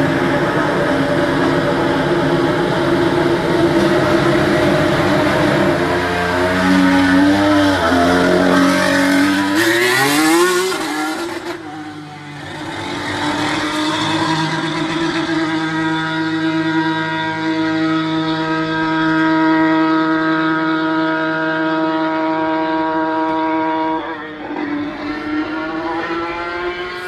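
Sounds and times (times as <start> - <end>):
racing car engine: 0.0 - 27.0.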